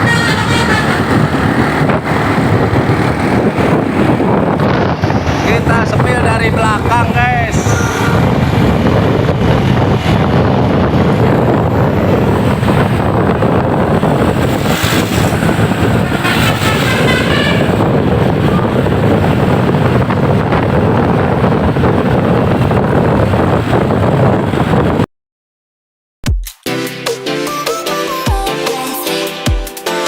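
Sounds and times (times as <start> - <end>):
road traffic noise: 0.0 - 25.1
wind on microphone: 0.0 - 25.1.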